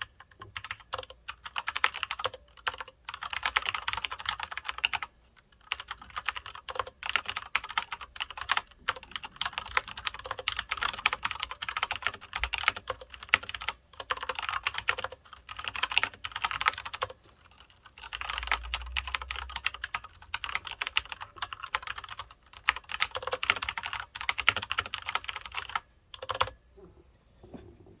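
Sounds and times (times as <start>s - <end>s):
mechanical keyboard typing: 0.0s - 26.6s.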